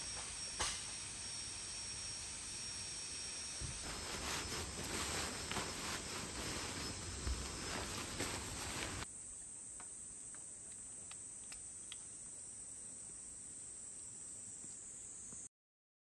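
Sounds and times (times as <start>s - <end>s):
insects chirring: 0.0s - 15.5s.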